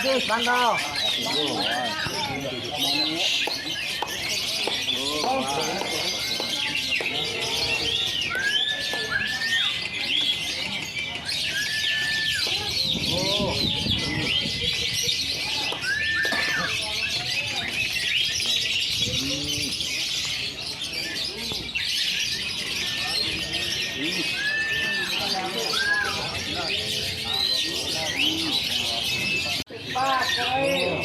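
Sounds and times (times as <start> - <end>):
lovebirds chattering: 0.0 - 31.0.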